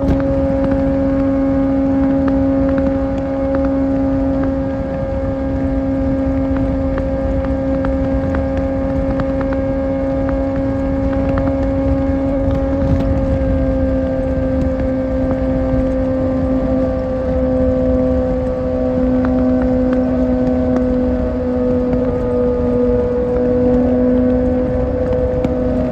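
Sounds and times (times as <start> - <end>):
motorcycle engine high-revving: 0.0 - 25.9.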